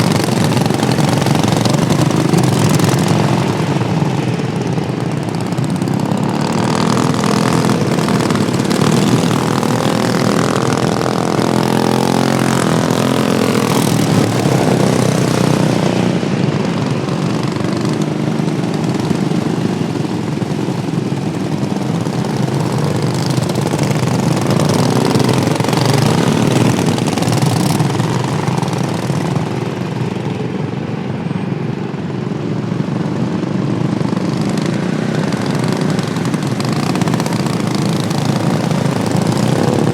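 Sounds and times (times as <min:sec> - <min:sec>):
racing lawn mower engines: 0:00.0 - 0:39.9.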